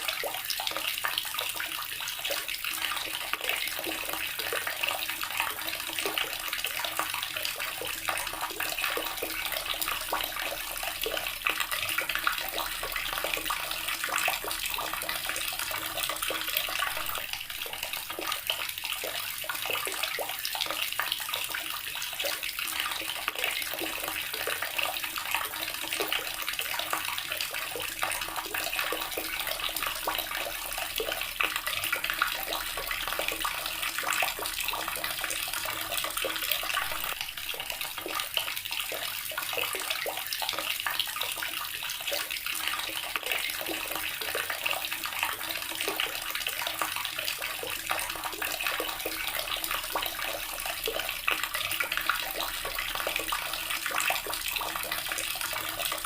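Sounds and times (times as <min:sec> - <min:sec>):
water tap running into basin: 0:00.0 - 0:56.0.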